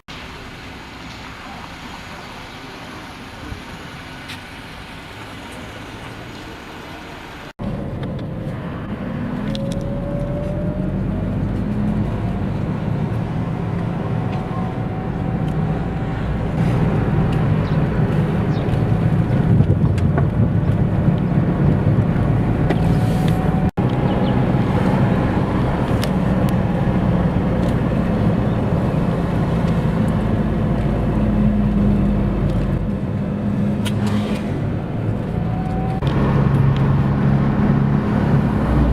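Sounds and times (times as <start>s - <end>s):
vehicle engines humming: 0.0s - 38.9s.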